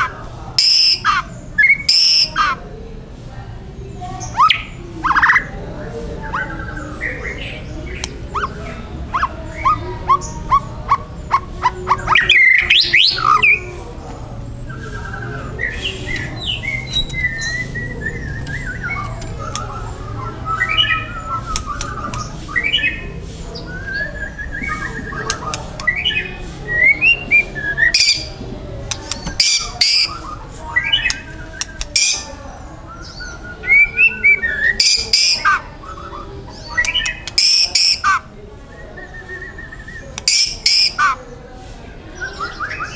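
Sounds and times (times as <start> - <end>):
bird whistling song: 0.0 - 2.5, 6.2 - 13.6, 14.7 - 28.4, 29.1 - 41.2.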